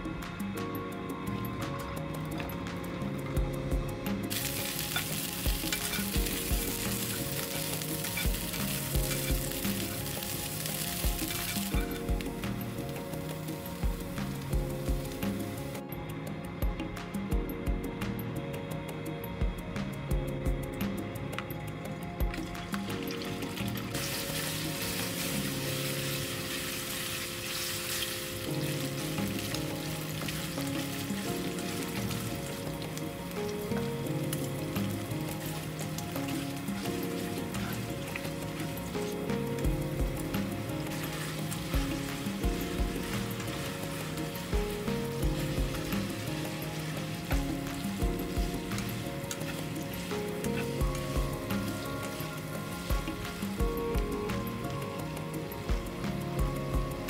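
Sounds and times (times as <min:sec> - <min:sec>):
vegetables sizzling in hot oil: 0:04.3 - 0:15.8, 0:22.8 - 0:57.0.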